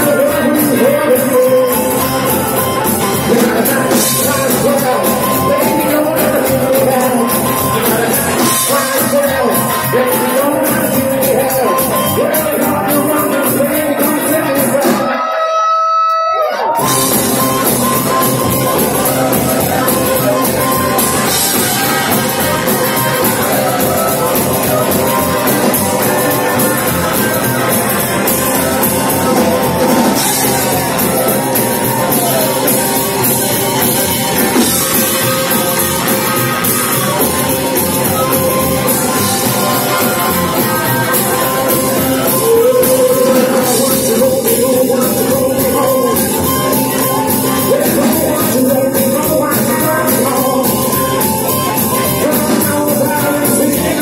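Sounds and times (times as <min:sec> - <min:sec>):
drums: 0:00.0 - 0:15.7, 0:16.3 - 0:54.0
acoustic and electric guitars: 0:00.0 - 0:54.0
harmonica: 0:00.0 - 0:54.0.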